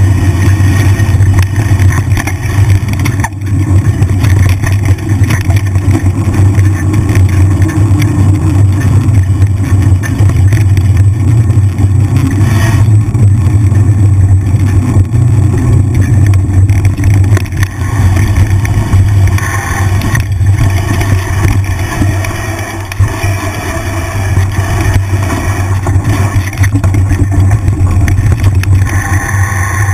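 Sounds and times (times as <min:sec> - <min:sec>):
bike knocks and rattles: 0:00.0 - 0:29.0.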